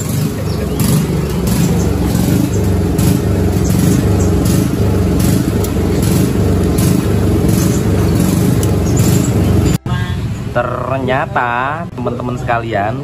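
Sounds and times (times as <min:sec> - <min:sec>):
motorcycle engine idling: 0:00.0 - 0:12.5.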